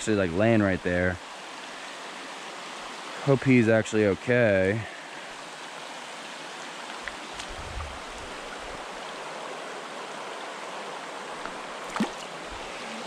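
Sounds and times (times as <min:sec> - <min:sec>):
creek water over stones: 0:00.0 - 0:13.0.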